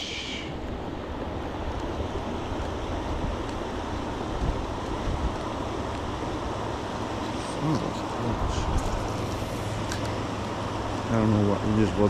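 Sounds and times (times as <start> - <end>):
flowing creek water: 0.0 - 12.0
wind rumble on microphone: 0.0 - 12.0.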